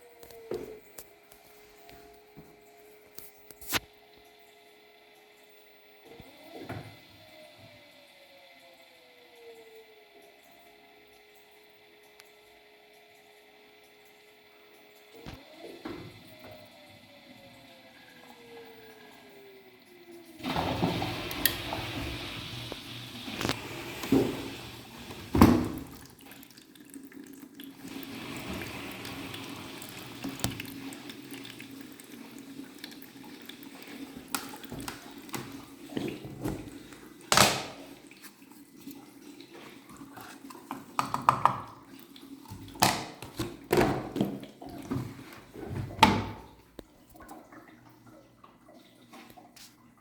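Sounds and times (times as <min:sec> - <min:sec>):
washing machine humming: 0:00.0 - 0:50.0.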